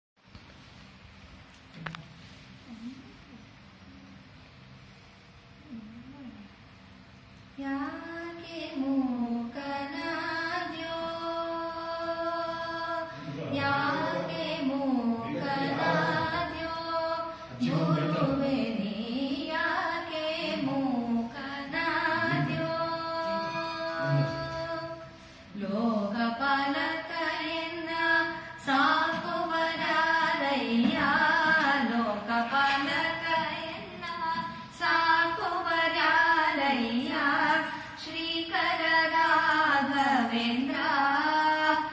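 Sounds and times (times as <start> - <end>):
woman singing devotional song: 7.6 - 41.9.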